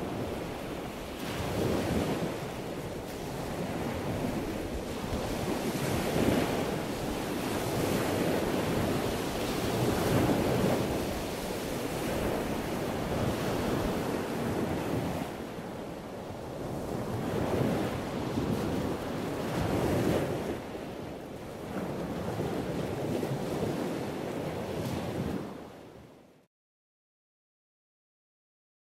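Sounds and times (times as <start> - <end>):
wind on microphone: 0.0 - 26.4.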